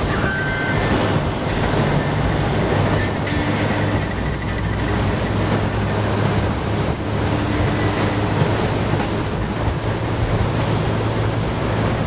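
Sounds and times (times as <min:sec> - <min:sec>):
boat engine humming: 0:00.0 - 0:12.0
water rushing past hull: 0:00.0 - 0:12.0
wind on microphone: 0:00.0 - 0:12.0.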